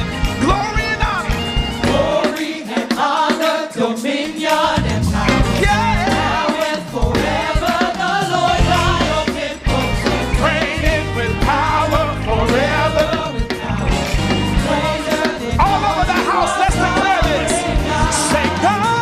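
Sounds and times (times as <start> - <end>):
live band playing: 0.0 - 3.6, 4.4 - 19.0
choir singing: 1.3 - 19.0.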